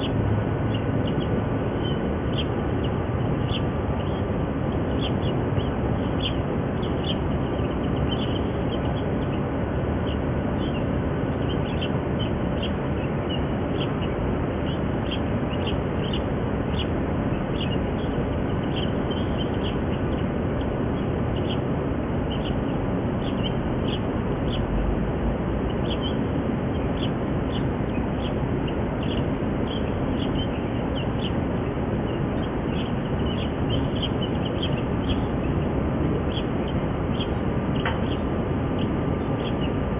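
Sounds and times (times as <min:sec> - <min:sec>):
ducklings peeping: 0:00.0 - 0:39.9
low background rumble: 0:00.0 - 0:39.9.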